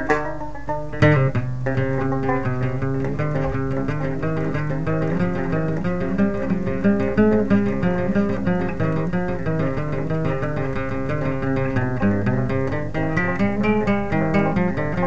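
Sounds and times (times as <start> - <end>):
acoustic guitar picking melody: 0.0 - 15.0.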